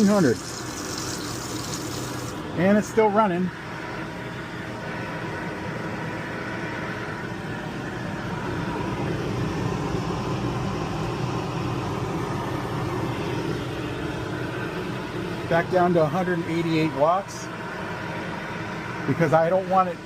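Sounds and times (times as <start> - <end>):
air conditioner hum and whoosh: 0.0 - 20.0.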